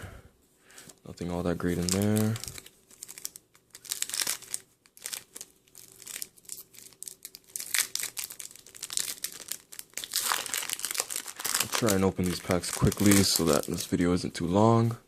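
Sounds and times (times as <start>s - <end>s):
foil wrapper crinkling and tearing: 1.6s - 14.0s.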